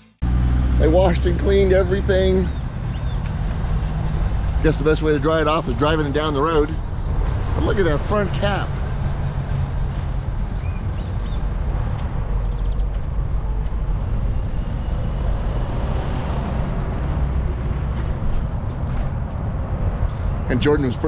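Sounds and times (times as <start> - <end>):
steady low rumble: 0.7 - 21.0.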